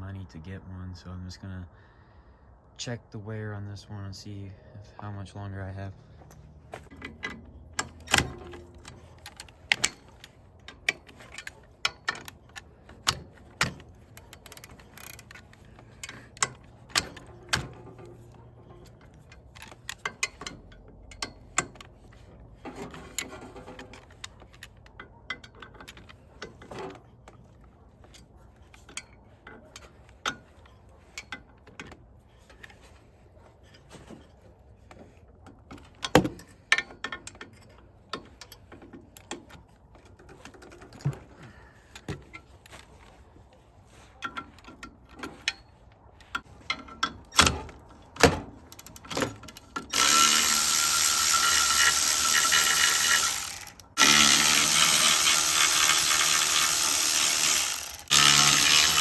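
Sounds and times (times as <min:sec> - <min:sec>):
hand tools clanking on metal: 0:05.6 - 0:43.2, 0:44.0 - 0:59.0.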